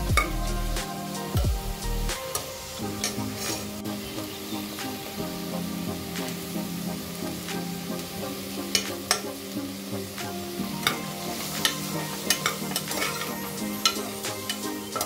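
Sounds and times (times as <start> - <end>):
background music sustained tones: 0.0 - 15.0
vegetables sizzling in oil: 0.2 - 15.0.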